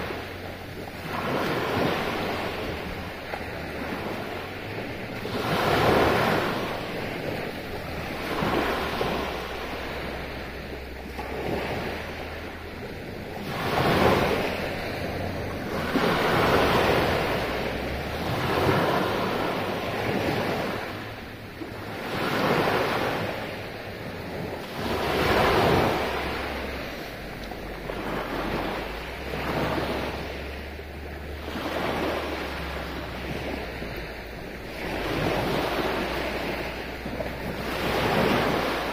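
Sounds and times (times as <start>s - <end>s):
waves breaking on a beach: 0.0s - 38.9s
wind rumble on microphone: 0.0s - 38.9s.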